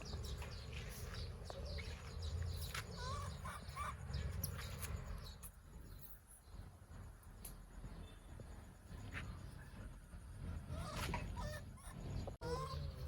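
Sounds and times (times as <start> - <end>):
birds chirping: 0.0 - 13.0
low background rumble: 0.0 - 13.0.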